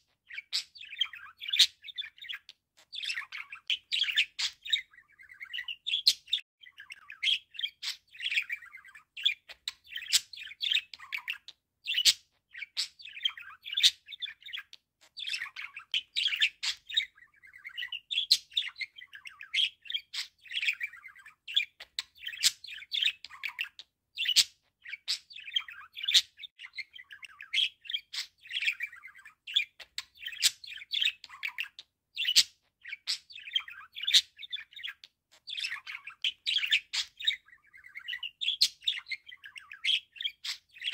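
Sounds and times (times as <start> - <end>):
budgerigar warbling and chattering: 0.3 - 40.9.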